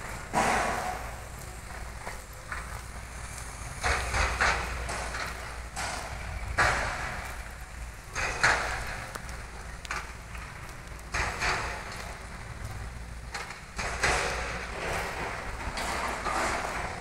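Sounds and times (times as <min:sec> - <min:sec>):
crackling noise bursts: 0:00.0 - 0:17.0
wind rumbling on microphone: 0:00.0 - 0:17.0.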